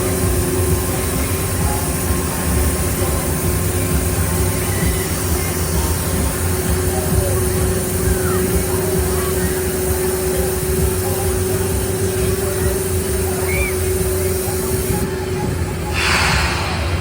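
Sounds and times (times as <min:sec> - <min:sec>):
carnival ride machinery humming: 0:00.0 - 0:17.0
faint distant voices: 0:00.0 - 0:17.0.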